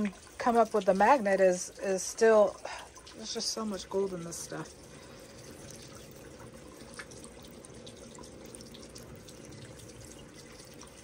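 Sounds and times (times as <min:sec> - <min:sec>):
water drips and splashes: 0:00.0 - 0:11.0
water swirling in a pan: 0:00.0 - 0:11.0.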